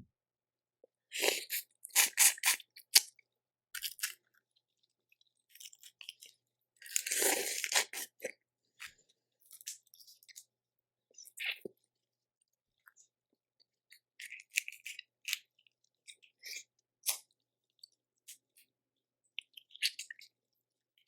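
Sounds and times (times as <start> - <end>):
chewing and crunching: 1.2 - 10.6, 11.2 - 21.0.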